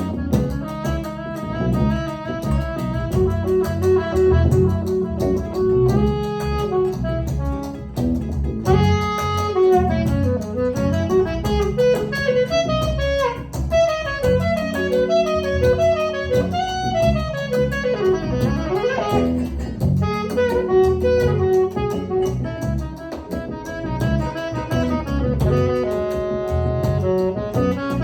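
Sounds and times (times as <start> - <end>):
live band playing instrumental: 0.0 - 28.0.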